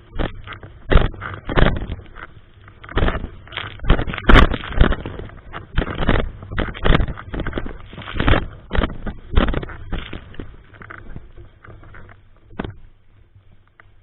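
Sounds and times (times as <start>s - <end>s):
strong wind buffeting microphone: 0.0s - 11.9s.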